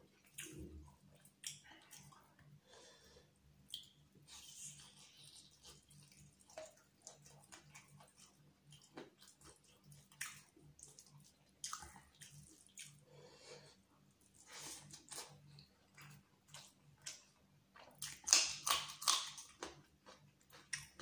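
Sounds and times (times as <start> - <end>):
faint low hum: 0.0 - 21.0
wet chewing and lip-smacking: 0.1 - 2.5, 3.7 - 13.0, 14.2 - 21.0.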